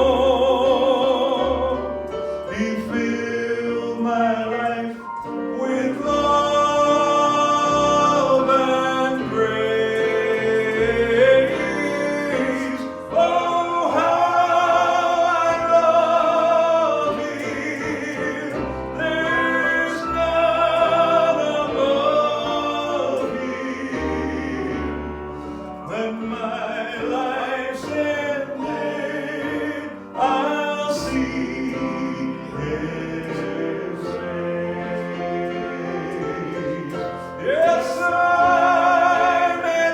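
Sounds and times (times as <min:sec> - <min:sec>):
gospel singing with instruments: 0:00.0 - 0:39.9.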